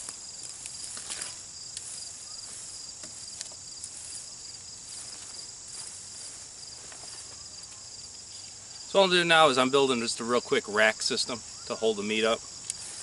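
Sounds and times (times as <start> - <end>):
insects trilling: 0.0 - 13.0
pulsing insect chirp: 0.0 - 13.0.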